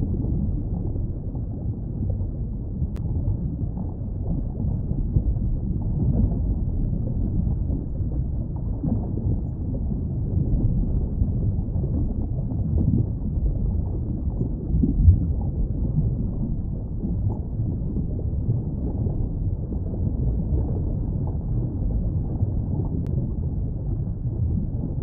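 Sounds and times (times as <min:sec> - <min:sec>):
underwater rumble of moving water: 0:00.0 - 0:25.0.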